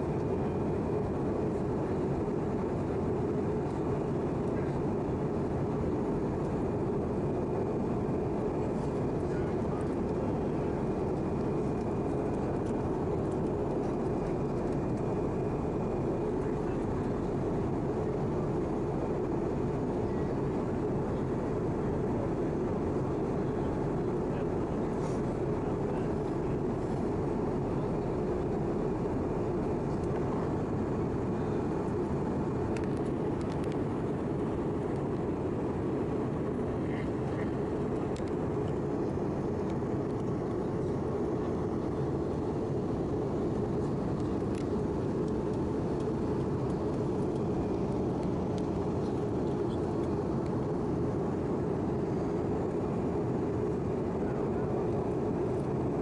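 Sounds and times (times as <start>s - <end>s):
airflow over fuselage: 0.0s - 56.0s
jet engines droning: 0.0s - 56.0s.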